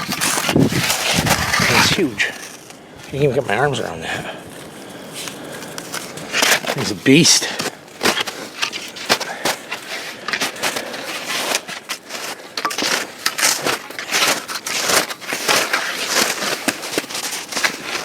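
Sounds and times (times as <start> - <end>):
snow crunching underfoot: 0.1 - 18.0.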